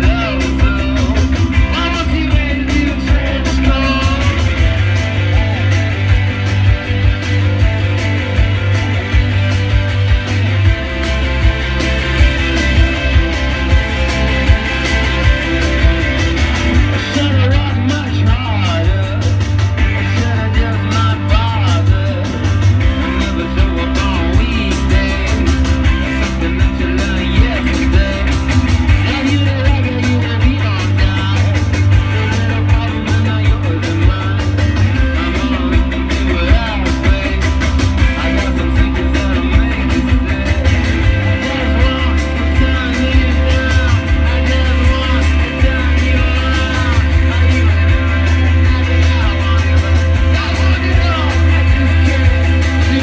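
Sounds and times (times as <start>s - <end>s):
man singing lead vocal: 0.0s - 9.2s, 10.0s - 53.0s
bass line: 0.0s - 53.0s
drums: 0.0s - 53.0s
electric guitars: 0.0s - 53.0s.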